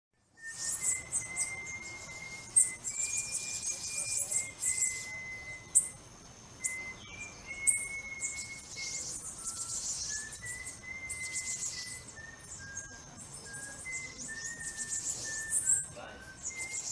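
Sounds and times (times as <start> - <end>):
held whistle-like notes: 0.2 - 16.9
high bird-like chirps and trills: 0.2 - 16.9.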